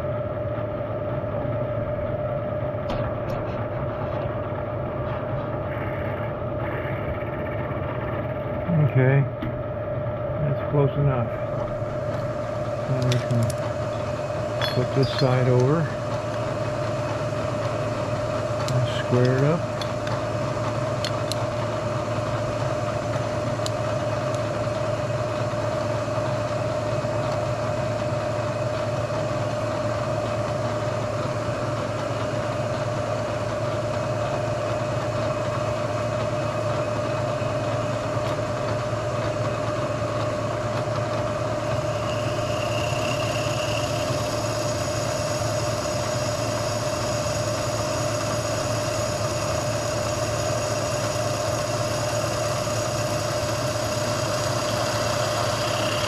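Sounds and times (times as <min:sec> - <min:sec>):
machine motor humming: 0:00.0 - 0:56.0.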